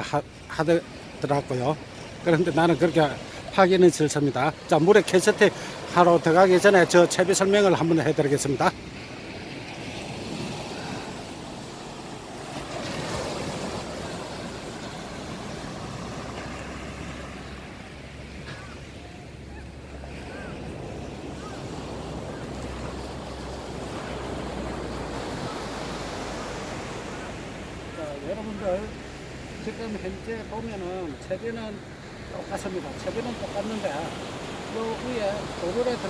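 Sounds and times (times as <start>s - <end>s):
small waves breaking on beach: 0.0s - 36.0s.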